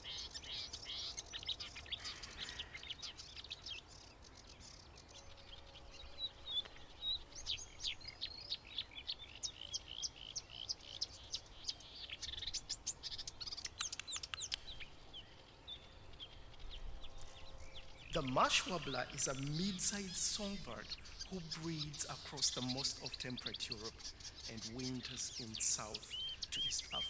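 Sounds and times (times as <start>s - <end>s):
warbler song with chirps and trills: 0.0s - 27.0s.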